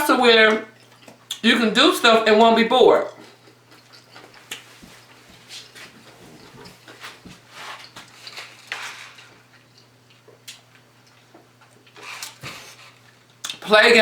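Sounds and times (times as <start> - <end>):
faint steady hum: 0.0 - 14.0
person chewing and smacking: 0.7 - 1.4, 3.1 - 13.7.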